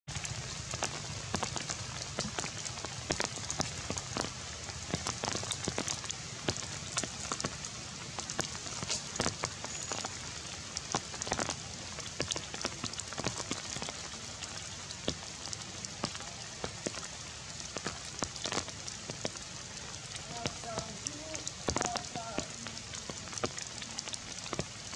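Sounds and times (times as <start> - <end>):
rain falling on leaves: 0.1 - 24.9.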